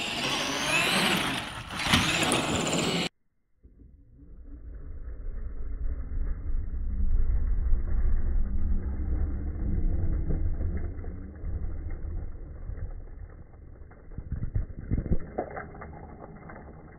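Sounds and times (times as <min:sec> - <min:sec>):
toy truck driving over gravel: 0:00.0 - 0:03.1, 0:04.4 - 0:16.9.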